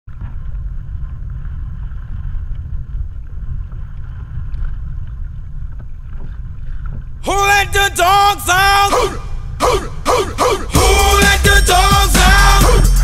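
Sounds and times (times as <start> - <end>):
wind buffeting microphone: 0.1 - 10.6
water rushing along boat hull: 0.1 - 13.0.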